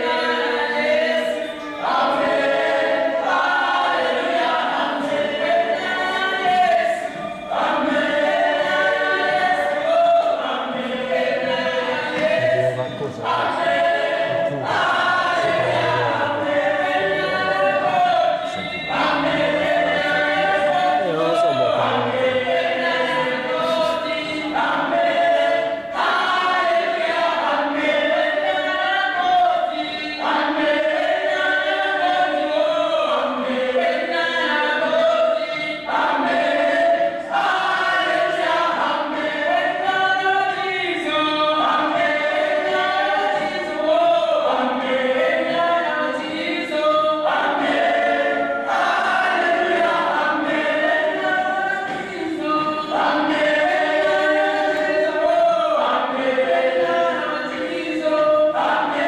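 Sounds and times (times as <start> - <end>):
choir singing over loudspeakers: 0.0 - 59.0.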